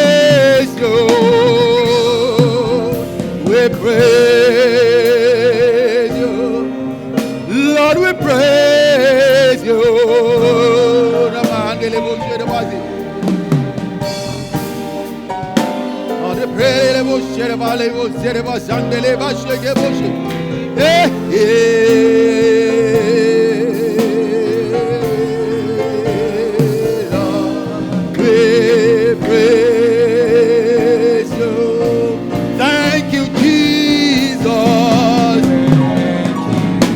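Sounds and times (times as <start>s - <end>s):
slow gospel music: 0.0s - 36.9s.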